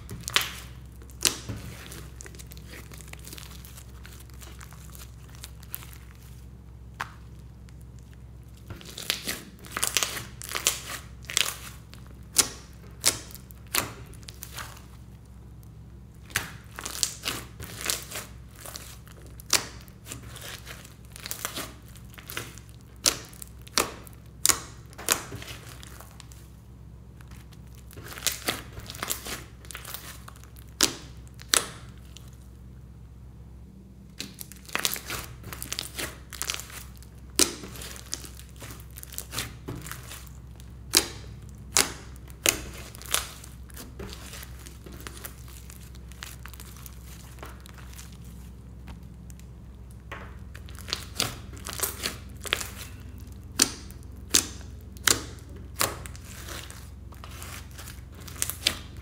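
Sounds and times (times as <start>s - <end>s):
slime popping and crackling: 0.0s - 26.4s, 27.2s - 32.4s, 34.1s - 59.0s.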